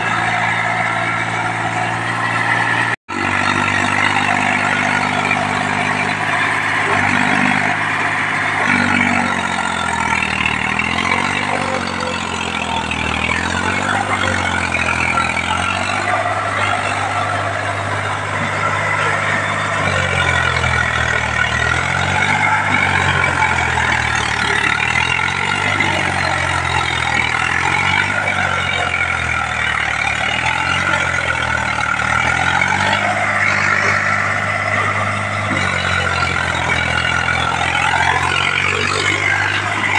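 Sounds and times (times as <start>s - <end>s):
tractor diesel engine labouring: 0.0s - 39.9s.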